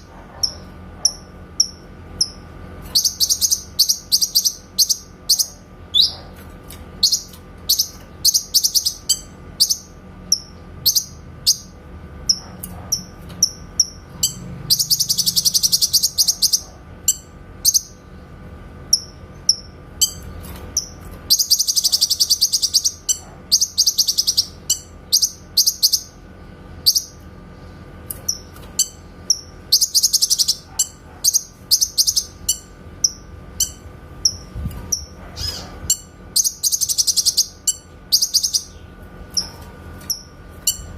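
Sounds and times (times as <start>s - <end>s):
faint steady hum: 0.0s - 40.9s
bird singing with trills: 0.4s - 6.2s, 7.0s - 12.4s, 13.0s - 18.0s, 18.9s - 26.2s, 28.2s - 39.5s.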